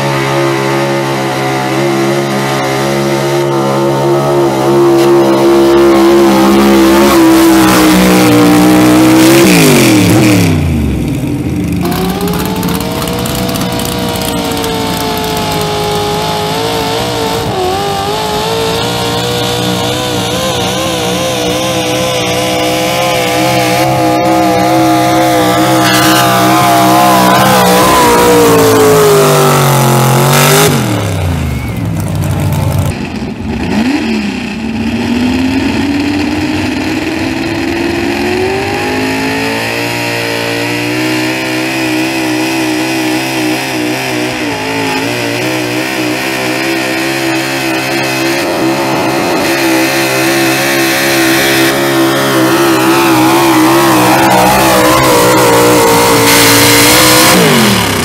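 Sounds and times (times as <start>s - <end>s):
pickup truck engine running hard: 0.0s - 58.0s.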